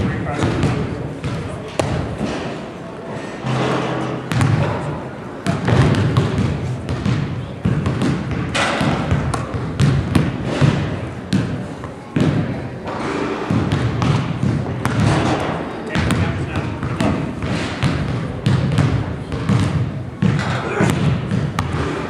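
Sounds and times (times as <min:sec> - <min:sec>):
basketballs bouncing on hardwood floor: 0:00.0 - 0:02.4, 0:03.4 - 0:22.0
crowd chatter: 0:00.0 - 0:22.0.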